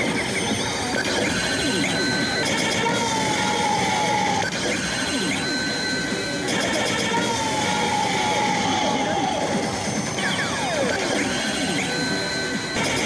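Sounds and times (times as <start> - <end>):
slot machine electronic tones: 0.0 - 13.0.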